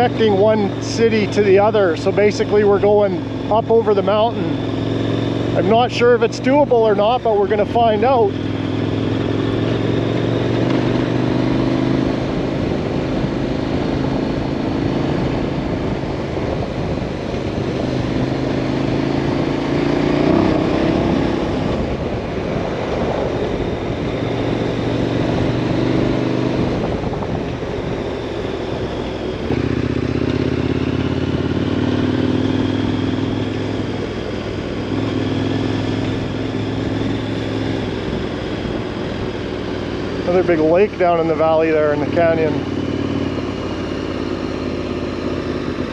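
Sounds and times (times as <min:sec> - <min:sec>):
motorcycle engine while riding: 0:00.0 - 0:45.9.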